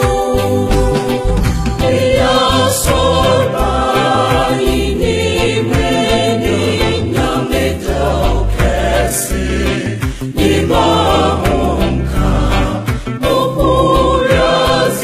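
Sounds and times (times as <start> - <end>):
choir singing a hymn: 0.0 - 15.0
instrumental accompaniment with bass: 0.0 - 15.0.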